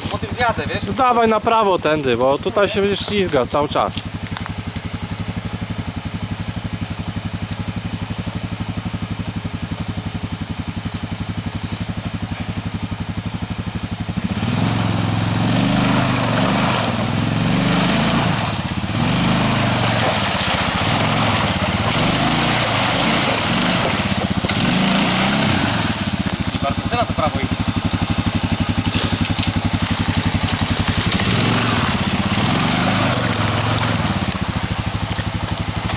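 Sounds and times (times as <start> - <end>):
atv engine revving: 0.0 - 35.9.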